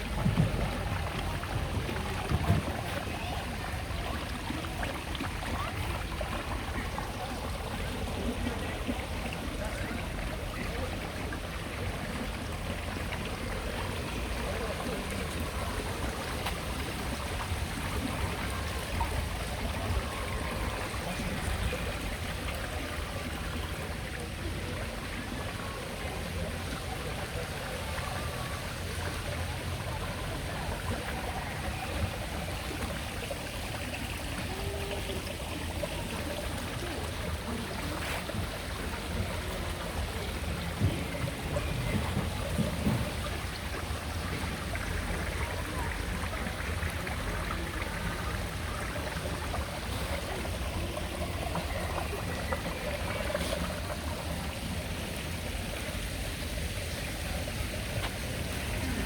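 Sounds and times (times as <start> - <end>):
stream water trickling: 0.0 - 59.0.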